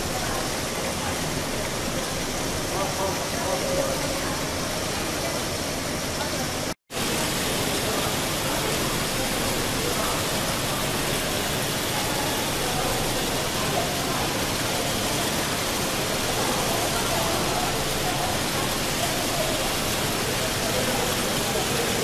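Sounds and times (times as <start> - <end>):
machine whirring: 0.0 - 22.0.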